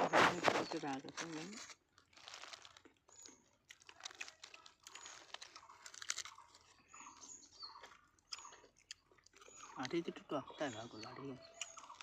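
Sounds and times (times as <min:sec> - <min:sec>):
faint crunching and crinkling: 0:00.0 - 0:12.0.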